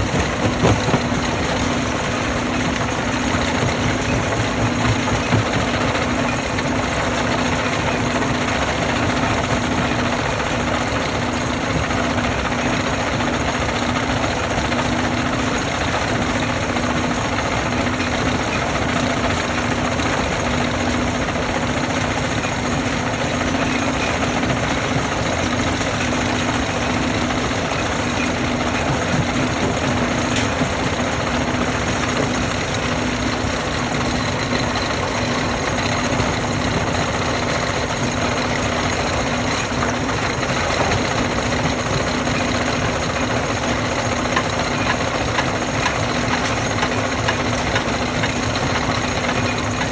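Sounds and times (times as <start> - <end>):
stone crushing machinery: 0.0 - 49.9.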